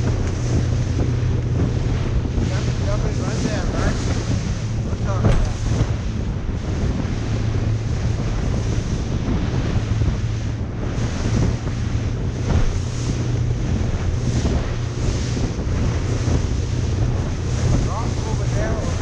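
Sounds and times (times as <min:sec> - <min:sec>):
boat engine hum: 0:00.0 - 0:19.0
water washing: 0:00.0 - 0:19.0
wind buffeting microphone: 0:00.0 - 0:19.0.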